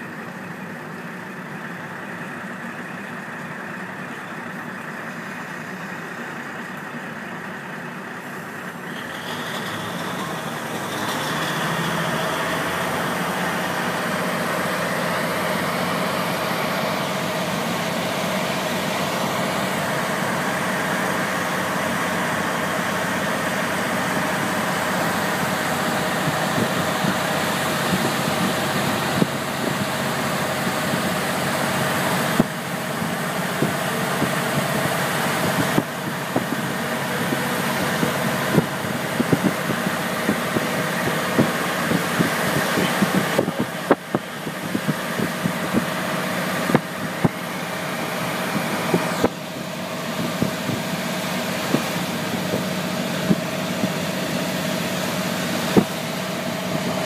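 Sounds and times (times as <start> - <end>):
railcar diesel engine: 0.0 - 57.0.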